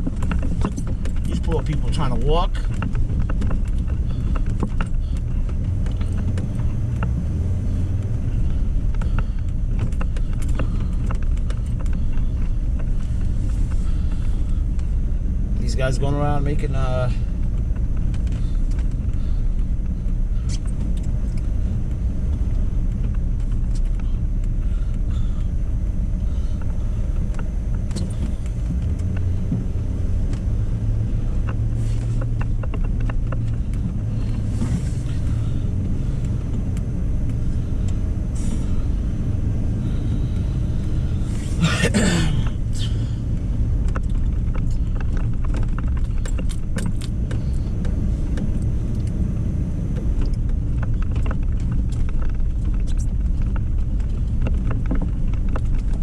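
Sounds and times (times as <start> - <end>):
light rattles and clicks: 0.0 - 56.0
truck engine and road rumble: 0.0 - 56.0.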